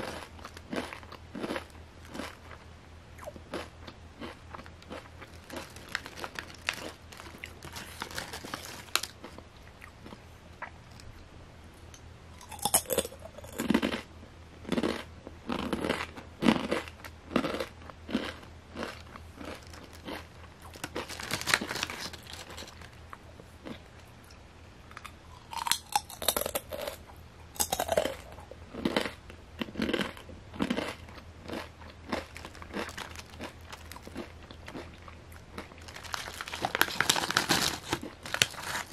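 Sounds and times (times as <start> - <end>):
person crunching potato chips: 0.0 - 2.6, 3.2 - 10.2, 12.4 - 23.9, 24.9 - 27.0, 27.6 - 38.9.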